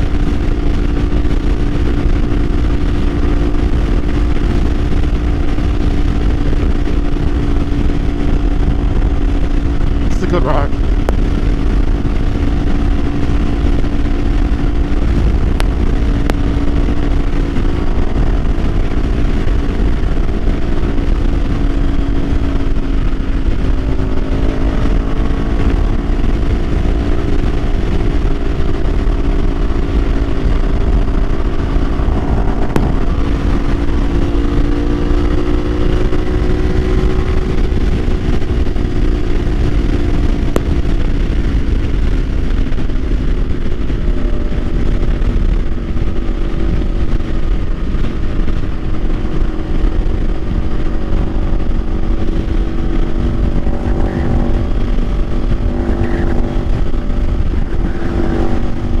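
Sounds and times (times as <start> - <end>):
motorcycle engine cruising: 0.0 - 59.0
wind noise on microphone: 0.0 - 59.0.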